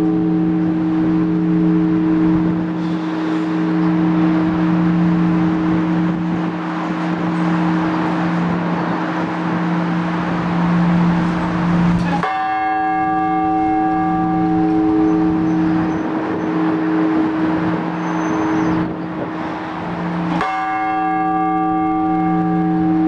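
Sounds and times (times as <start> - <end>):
large church bell ringing: 0.0 - 23.0
steady background noise: 0.0 - 23.0.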